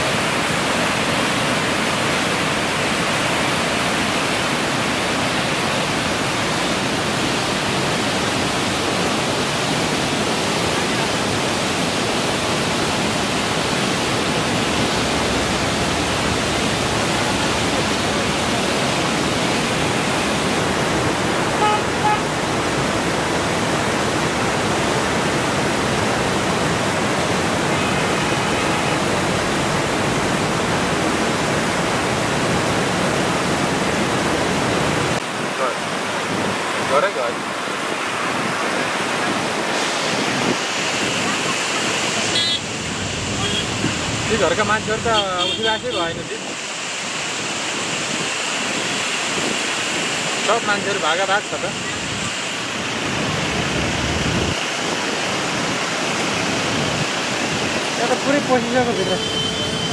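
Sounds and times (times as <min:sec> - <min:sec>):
rushing floodwater: 0:00.0 - 0:59.9.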